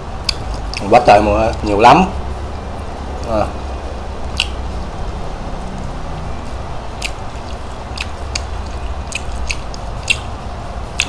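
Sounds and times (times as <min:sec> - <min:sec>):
mouth clicks and smacks: 0:00.2 - 0:01.7, 0:03.5 - 0:11.0
person chewing: 0:00.2 - 0:02.3, 0:03.1 - 0:11.0.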